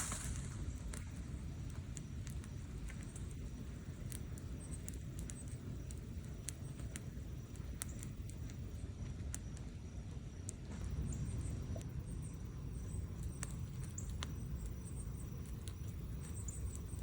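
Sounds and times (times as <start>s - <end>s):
campfire flame rumble: 0.0s - 17.0s
fire crackles and pops: 0.0s - 17.0s.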